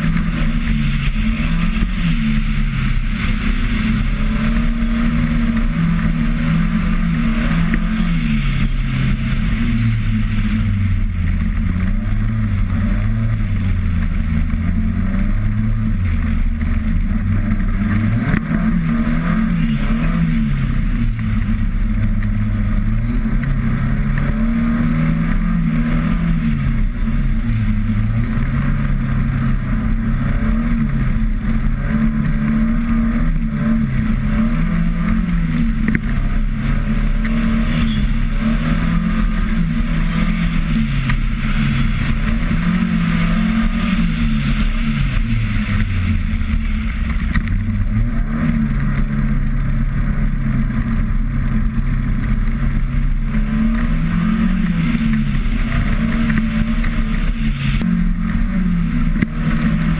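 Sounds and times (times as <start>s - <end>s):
car engine revving: 0.0s - 59.9s
constant rushing noise: 0.0s - 59.9s.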